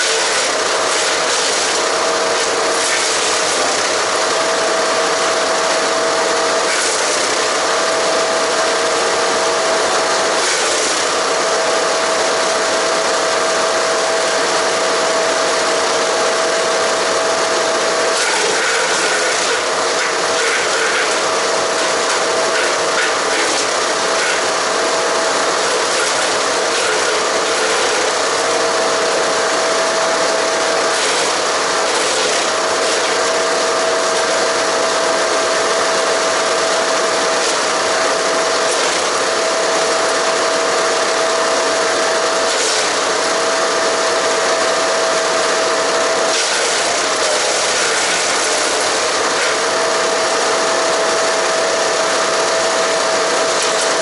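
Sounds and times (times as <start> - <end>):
wood chipper running: 0.0 - 54.0
wood cracking in chipper: 0.0 - 54.0.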